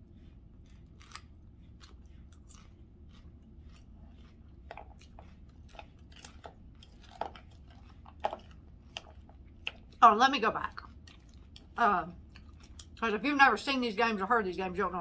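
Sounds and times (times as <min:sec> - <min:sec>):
person chewing food: 0:00.0 - 0:13.0
steady low hum: 0:00.0 - 0:15.0.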